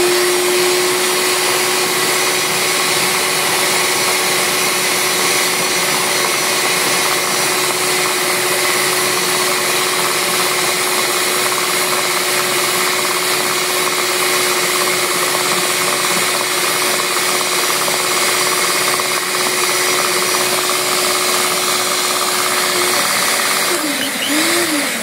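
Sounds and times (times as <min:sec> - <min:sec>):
stand mixer whisking batter: 0:00.0 - 0:25.0.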